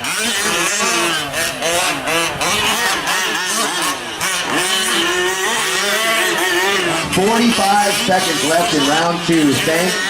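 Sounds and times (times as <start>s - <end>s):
rc truck engines revving: 0.0s - 10.0s.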